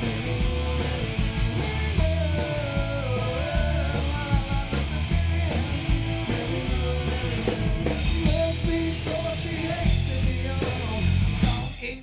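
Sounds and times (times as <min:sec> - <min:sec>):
electric guitar lead: 0:00.0 - 0:11.5
bass and drums: 0:00.0 - 0:12.0.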